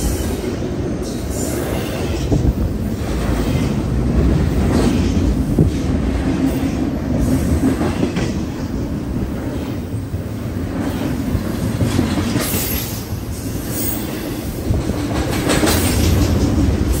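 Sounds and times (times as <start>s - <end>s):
rail clacks: 0.0s - 17.0s
steel wheels rumbling on rail: 0.0s - 17.0s.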